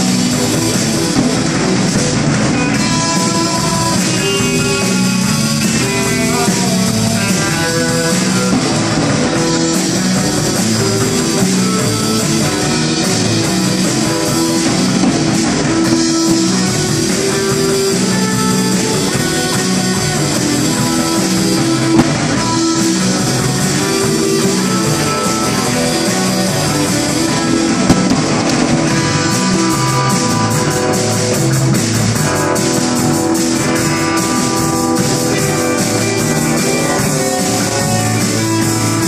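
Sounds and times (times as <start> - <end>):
bass guitar: 0.0 - 39.0
drum kit: 0.0 - 39.0
electric guitars: 0.0 - 39.0.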